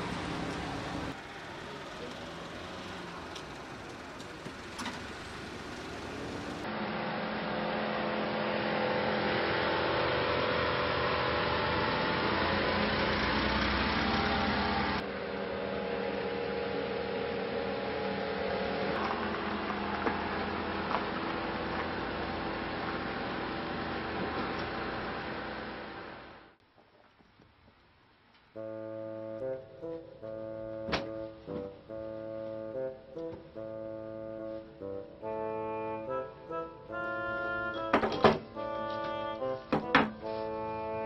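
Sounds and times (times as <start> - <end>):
small van engine driving: 0.0 - 26.6, 28.6 - 41.0.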